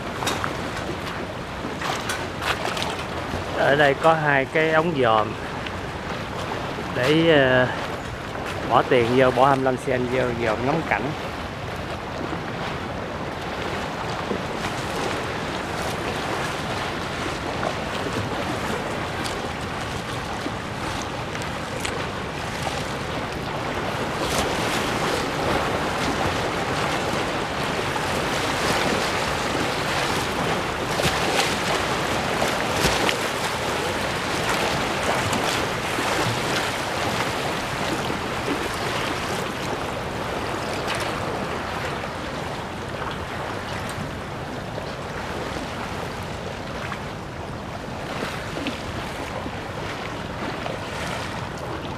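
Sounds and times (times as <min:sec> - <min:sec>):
flood water lapping over walkway: 0:00.0 - 0:51.9.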